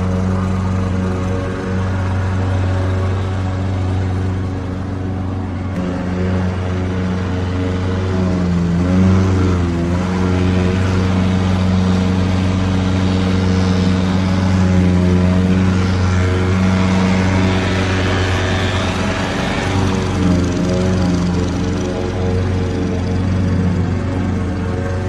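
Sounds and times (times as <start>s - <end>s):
lawnmower engine running: 0.0s - 25.0s.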